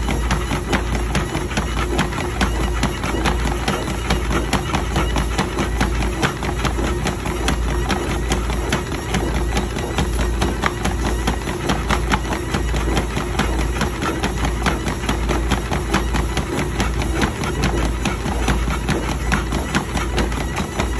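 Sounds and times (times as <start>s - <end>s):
dog paws trotting on belt: 0.0s - 20.9s
treadmill motor hum: 0.0s - 20.9s.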